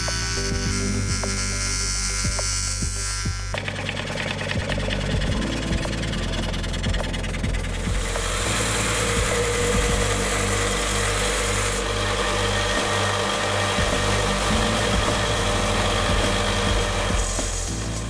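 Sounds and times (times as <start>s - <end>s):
saw blade cutting hiss: 0.0s - 4.8s, 7.6s - 18.0s
band saw humming: 0.0s - 18.0s.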